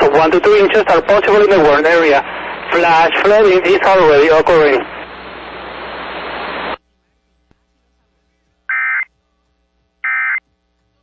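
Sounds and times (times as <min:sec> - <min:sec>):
radio static hiss: 0:00.0 - 0:09.1.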